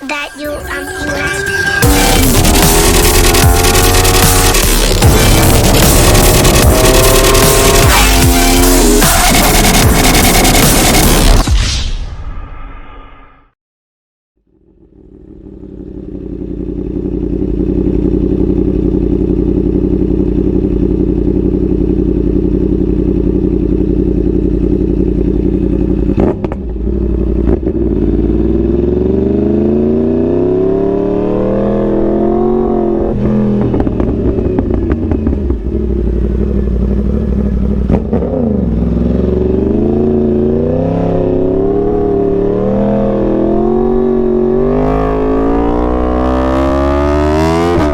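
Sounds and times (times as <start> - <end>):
motorcycle engine revving: 1.8 - 11.4, 14.4 - 47.9.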